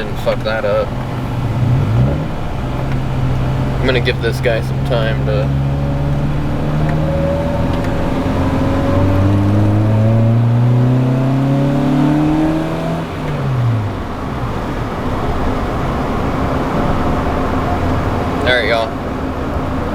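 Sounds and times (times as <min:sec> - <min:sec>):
car engine accelerating: 0:00.0 - 0:19.9
road noise: 0:00.0 - 0:19.9.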